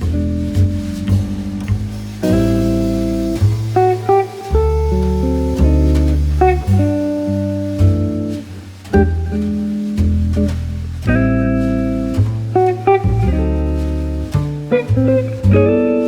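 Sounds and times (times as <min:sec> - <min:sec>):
bass line: 0:00.0 - 0:16.0
plucked guitar: 0:00.0 - 0:16.0.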